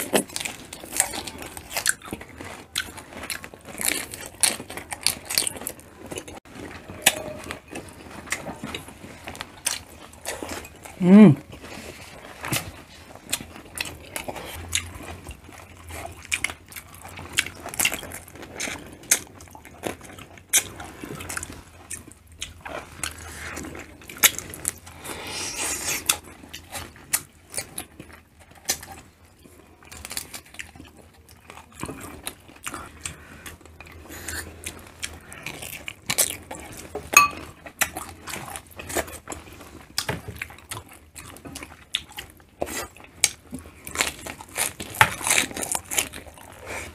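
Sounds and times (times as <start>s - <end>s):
chewing and crunching: 0.0s - 46.9s.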